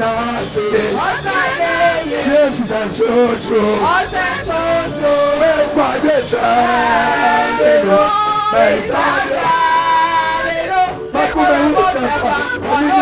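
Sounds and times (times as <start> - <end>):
people singing a worship song: 0.0 - 13.0.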